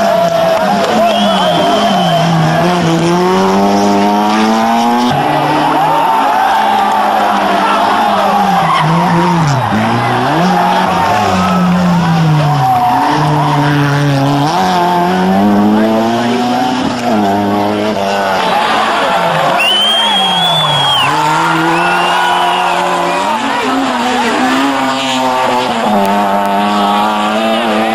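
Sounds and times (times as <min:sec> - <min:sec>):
car engine accelerating hard: 0:00.0 - 0:27.9.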